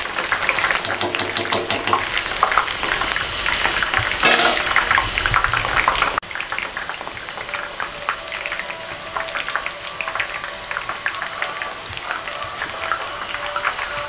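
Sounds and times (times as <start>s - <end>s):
deep-frying sizzle with pops: 0.0s - 14.0s.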